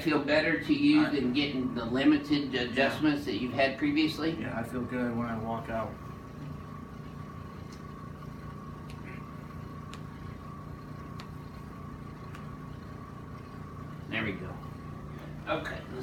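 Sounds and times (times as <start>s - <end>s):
room hum with faint tone: 0.0s - 16.0s.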